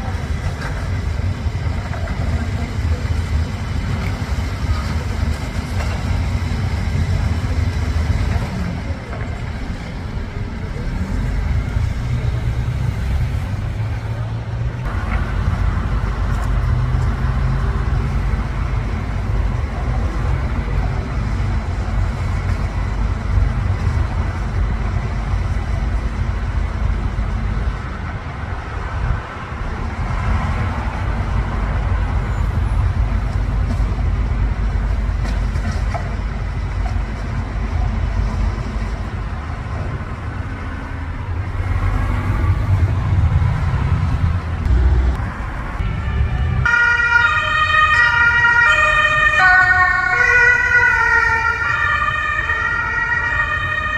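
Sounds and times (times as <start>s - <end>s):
diesel engine rumbling: 0.0s - 53.9s.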